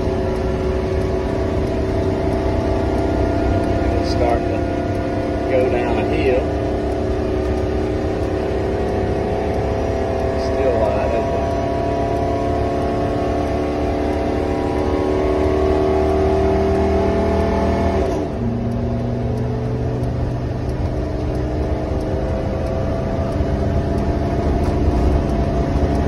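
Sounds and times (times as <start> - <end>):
motorhome engine at full throttle: 0.0 - 26.0.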